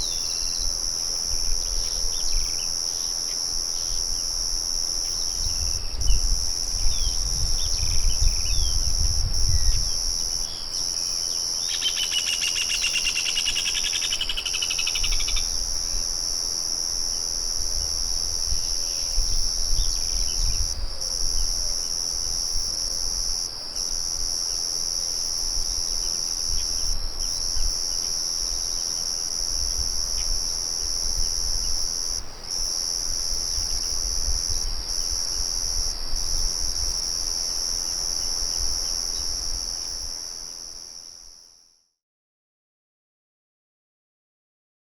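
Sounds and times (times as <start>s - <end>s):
crickets trilling: 0.0s - 41.6s.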